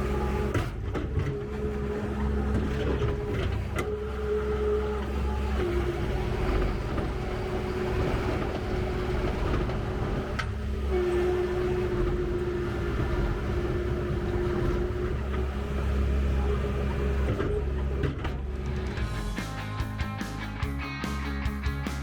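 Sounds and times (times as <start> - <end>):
diesel engine drone and whine: 0.0 - 22.0.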